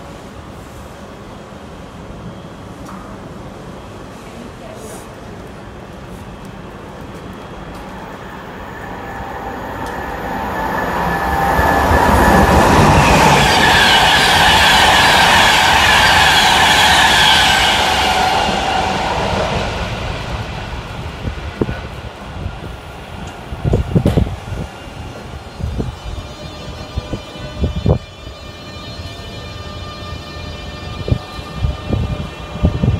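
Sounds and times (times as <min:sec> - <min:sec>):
high-pitched train whine: 0:00.0 - 0:32.9
train wheels rumbling: 0:04.2 - 0:32.9.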